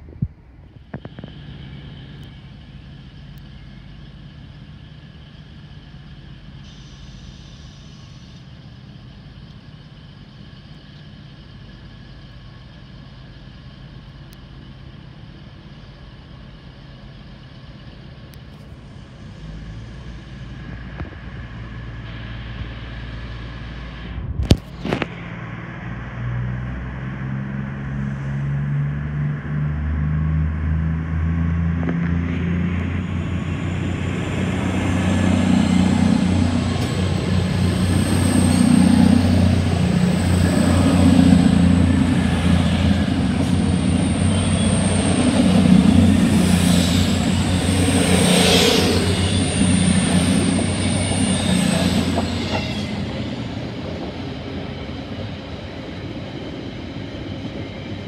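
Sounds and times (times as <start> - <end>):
passenger train passing: 0.0 - 58.0.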